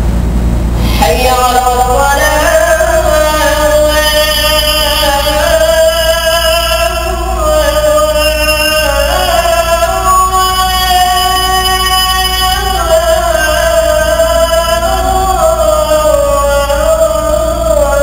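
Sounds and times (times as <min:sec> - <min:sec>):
man chanting: 0:00.8 - 0:18.0.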